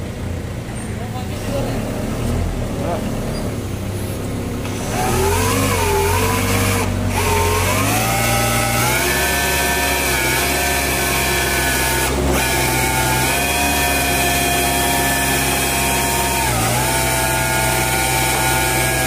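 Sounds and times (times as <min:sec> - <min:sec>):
forklift engine running: 0:00.0 - 0:19.0
hydraulic whine: 0:00.0 - 0:19.0.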